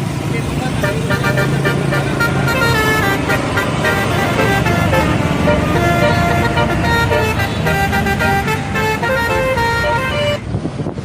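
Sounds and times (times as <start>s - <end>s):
bus engine running: 0.0s - 11.0s
bus horn playing a tune: 0.8s - 10.6s.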